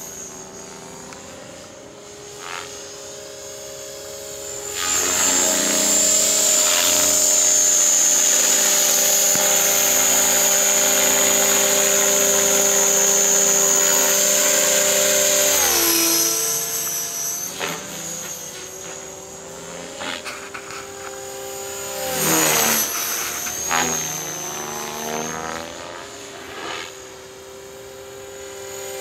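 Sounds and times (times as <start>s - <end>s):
model helicopter rotor whine: 0.0s - 29.0s.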